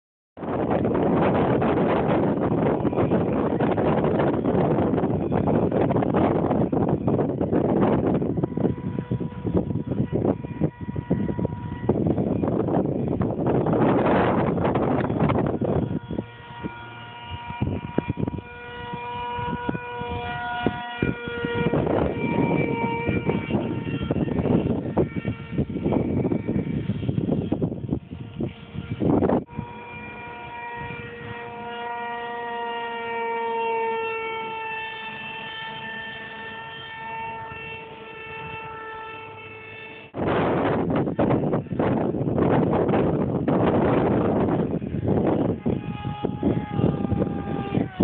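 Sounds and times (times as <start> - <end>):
electric motor and propeller whining: 0.4 - 48.0
wind buffeting microphone: 0.4 - 48.0.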